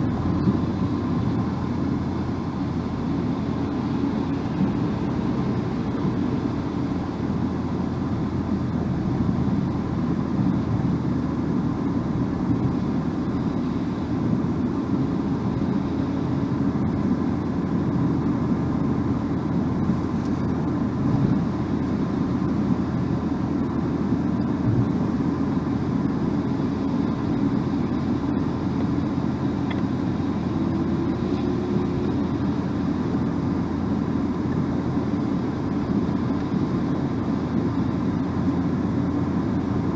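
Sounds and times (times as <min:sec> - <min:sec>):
car engine hum: 0:00.0 - 0:39.9
road and tyre noise: 0:00.0 - 0:39.9.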